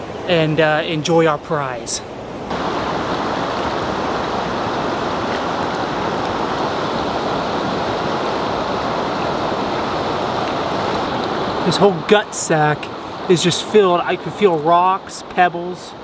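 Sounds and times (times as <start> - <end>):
fast-flowing river: 0.0 - 16.0.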